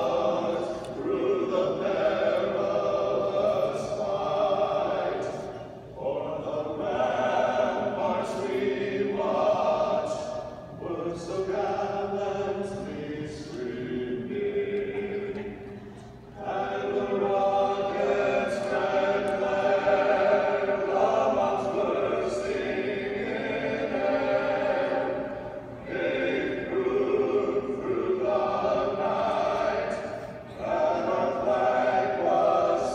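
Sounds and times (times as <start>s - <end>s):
vocal quartet singing in harmony: 0.0s - 32.9s.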